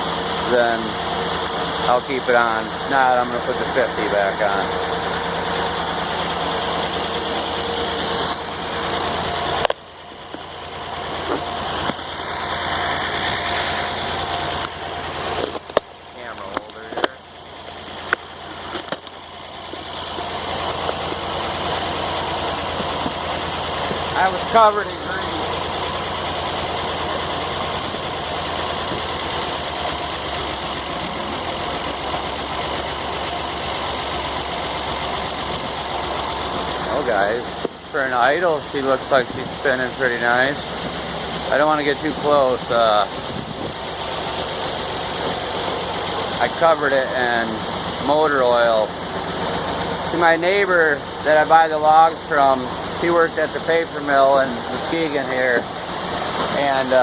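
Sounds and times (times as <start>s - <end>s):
sawmill engine idling: 0.0s - 57.0s.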